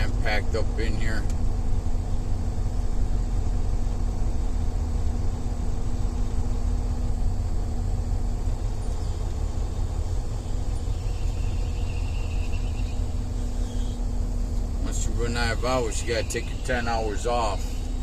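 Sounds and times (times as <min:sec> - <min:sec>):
diesel truck engine rumble: 0:00.0 - 0:18.0.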